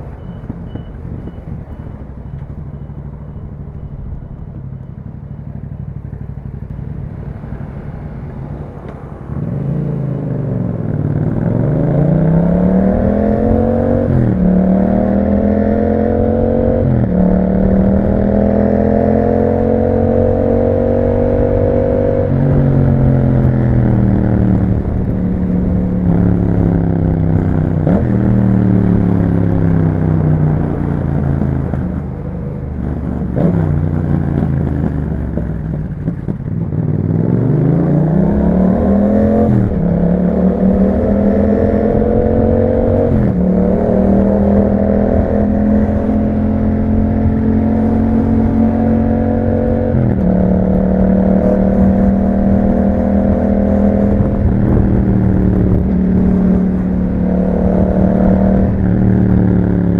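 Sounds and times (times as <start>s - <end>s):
motorcycle engine revving and shifting: 5.6s - 59.9s.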